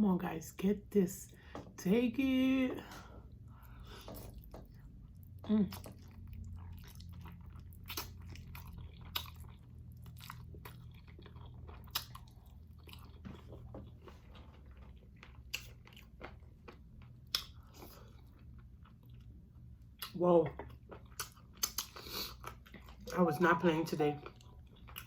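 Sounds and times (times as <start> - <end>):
steady low hum: 0.0 - 25.0
chewing and crunching: 3.2 - 23.2, 24.1 - 25.0.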